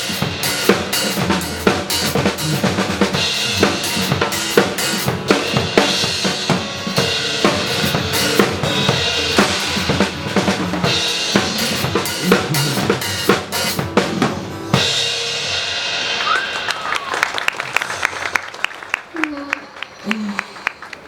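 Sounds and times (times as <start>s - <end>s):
pop backing track: 0.0s - 17.0s
drum kit playing a busy beat: 0.0s - 17.1s.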